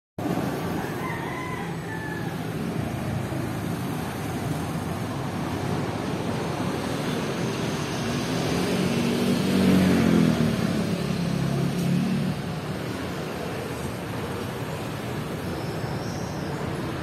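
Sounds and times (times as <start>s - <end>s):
engine passing by: 0.2s - 17.0s.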